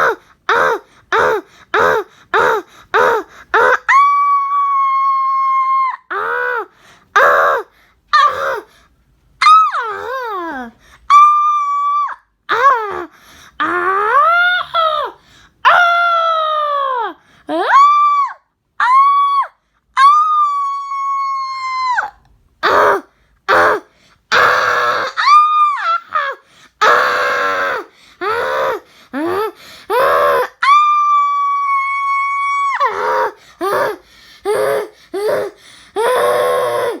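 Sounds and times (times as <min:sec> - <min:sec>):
high-pitched human screams: 0:00.0 - 0:08.6, 0:11.1 - 0:34.0, 0:34.6 - 0:37.0.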